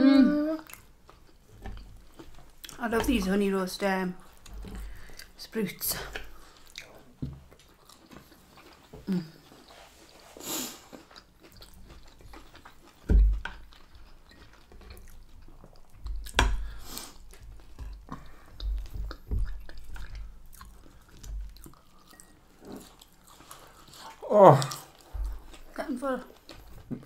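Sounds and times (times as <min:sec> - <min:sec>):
people chewing food: 0:00.0 - 0:27.0.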